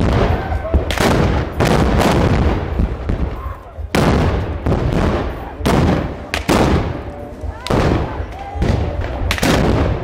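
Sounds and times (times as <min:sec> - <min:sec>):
crowd noise: 0:00.0 - 0:10.0.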